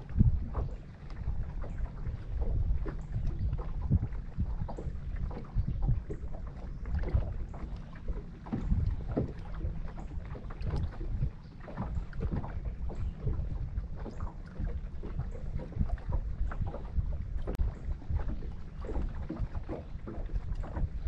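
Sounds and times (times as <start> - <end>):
knocks and slaps on boat: 0.0 - 21.0
wind rumbling on microphone: 0.0 - 21.0.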